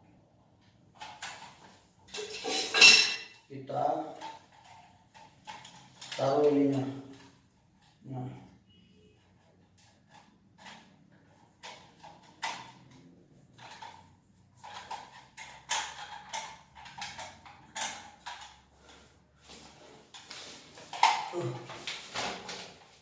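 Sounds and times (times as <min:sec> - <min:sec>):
plastic parts clicking and rattling: 0:00.6 - 0:02.6, 0:04.0 - 0:08.0, 0:09.4 - 0:19.0, 0:20.0 - 0:23.0.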